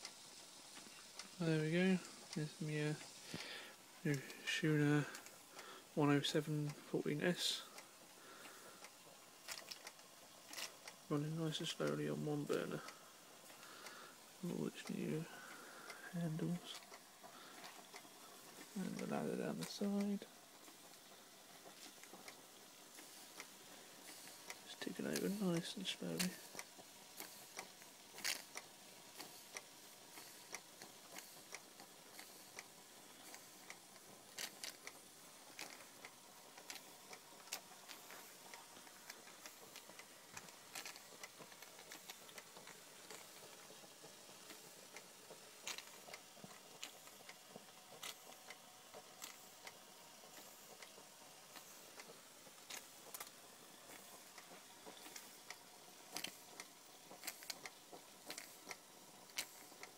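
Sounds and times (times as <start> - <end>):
low hiss: 0.0 - 59.9
toy steam engine clicking: 0.0 - 59.9.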